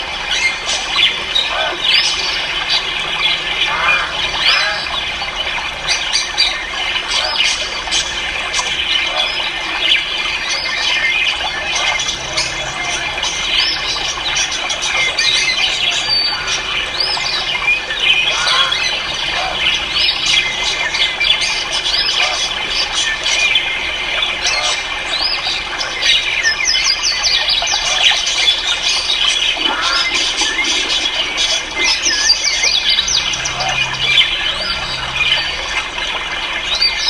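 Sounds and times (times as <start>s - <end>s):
caged birds chirping and squawking: 0.0s - 37.0s.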